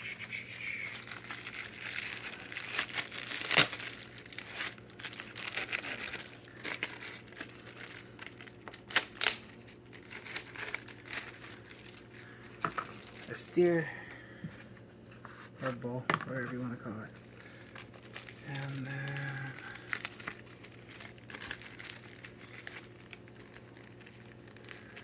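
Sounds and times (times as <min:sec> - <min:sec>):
sharp wrapping crack: 0:00.0 - 0:13.8, 0:17.1 - 0:25.0
wrapping crinkling: 0:00.0 - 0:25.0.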